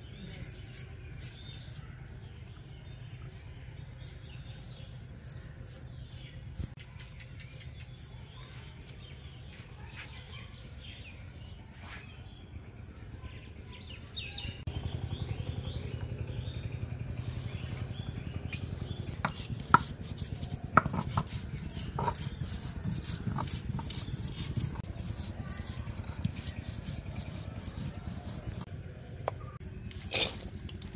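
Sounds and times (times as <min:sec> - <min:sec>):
low steady rumble: 0:00.0 - 0:30.9
small birds chirping: 0:00.0 - 0:30.9.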